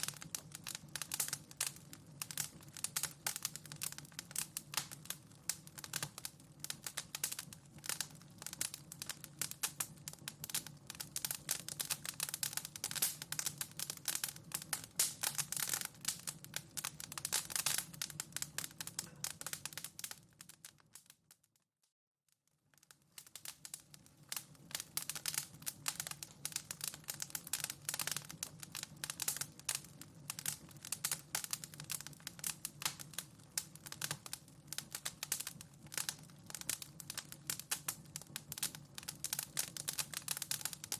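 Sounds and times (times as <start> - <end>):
wood fire crackling: 0.0 - 21.6, 22.5 - 40.9.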